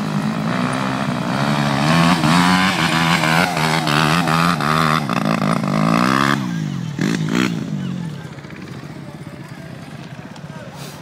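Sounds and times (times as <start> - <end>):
dirt bike engine revving: 0.0 - 9.0.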